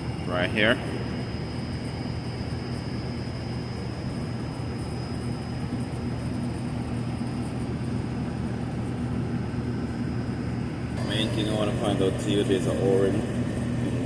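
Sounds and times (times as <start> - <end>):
mechanical hum and rushing: 0.0 - 14.0.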